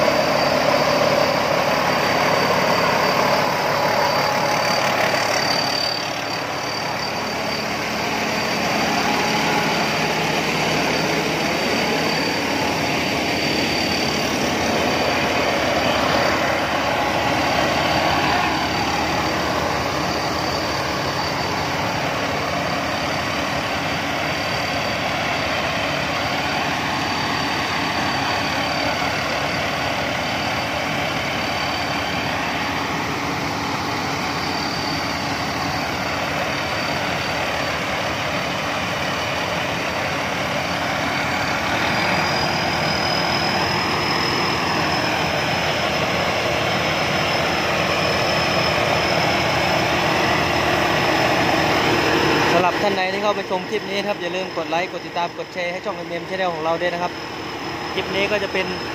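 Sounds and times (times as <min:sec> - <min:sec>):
combine harvester engine running: 0:00.0 - 0:58.9
high whine: 0:00.0 - 0:58.9.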